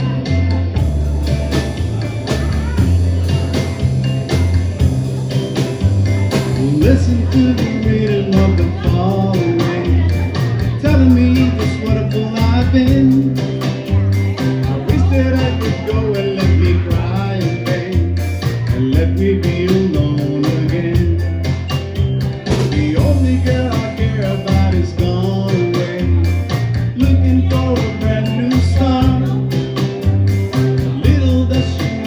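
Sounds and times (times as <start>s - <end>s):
bass line: 0.0s - 32.0s
drum beat: 0.0s - 32.0s
guitar: 0.0s - 32.0s.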